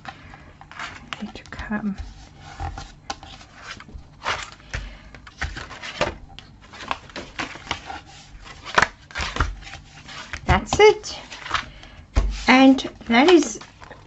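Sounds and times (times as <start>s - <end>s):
paper rustling and scraping: 0.7s - 14.0s.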